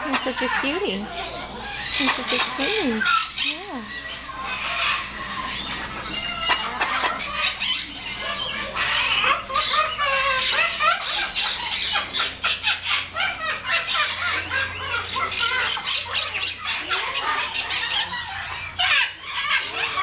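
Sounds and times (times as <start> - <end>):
parrots chattering and squawking: 0.0 - 20.0.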